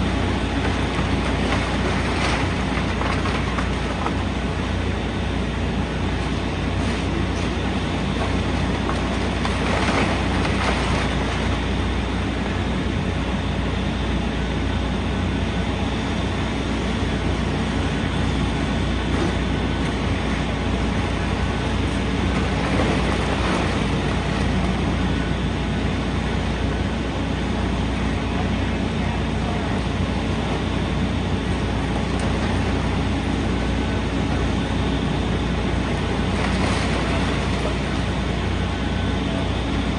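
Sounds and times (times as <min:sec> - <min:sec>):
diesel engine rumble: 0:00.0 - 0:39.9.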